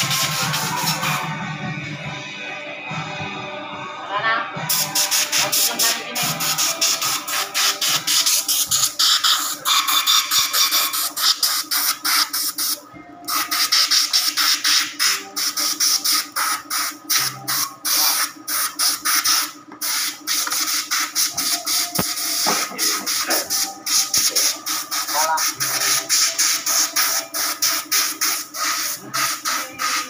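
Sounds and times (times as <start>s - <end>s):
air blow gun hissing bursts: 4.7s - 17.2s, 17.9s - 30.0s.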